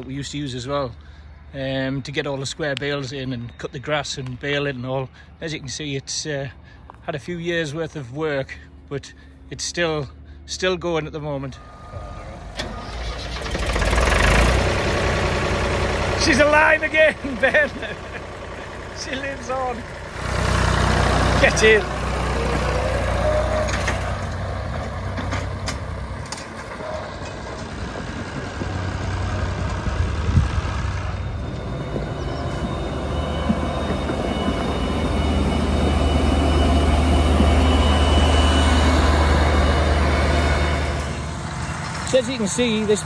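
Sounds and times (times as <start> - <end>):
forage harvester engine humming: 6.6 - 43.0
tractor engine running: 7.6 - 43.0.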